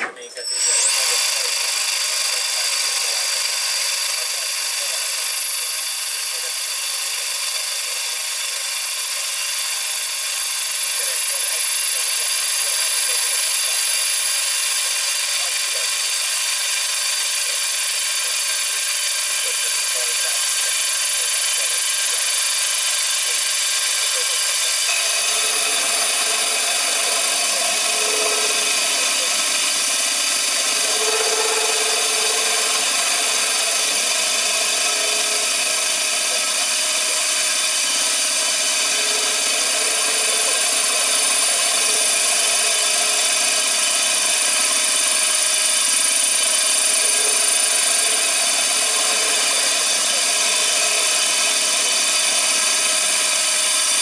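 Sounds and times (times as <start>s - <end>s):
cnc machine whining: 0.0s - 54.0s.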